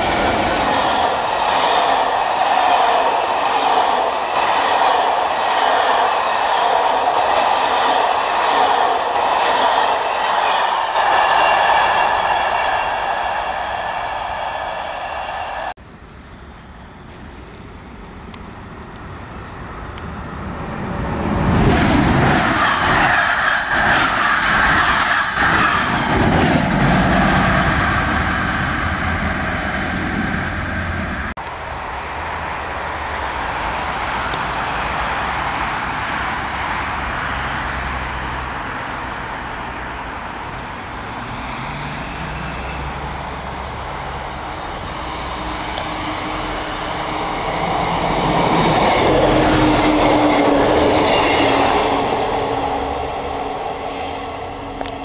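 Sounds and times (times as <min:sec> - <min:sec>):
low train rumble: 0:00.0 - 0:55.0.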